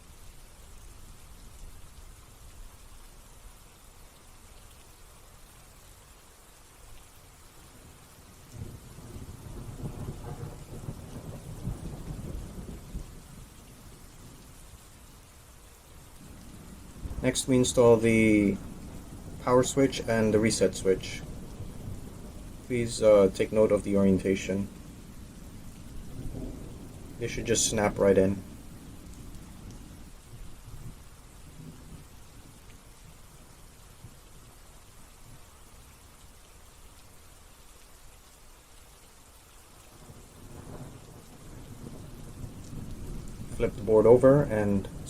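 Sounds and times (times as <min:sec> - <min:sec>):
faint hiss: 0:00.0 - 0:45.0.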